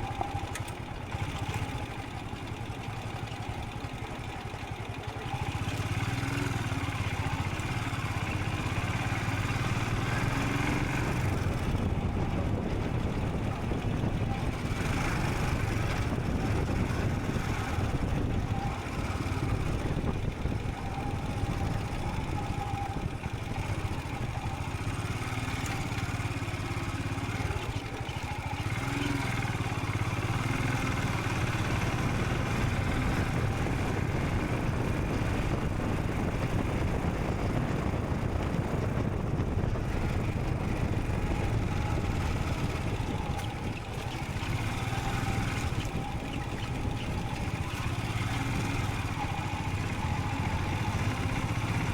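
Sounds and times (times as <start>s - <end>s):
motorcycle engine under way: 0.0s - 51.9s
wind and road noise: 0.0s - 51.9s.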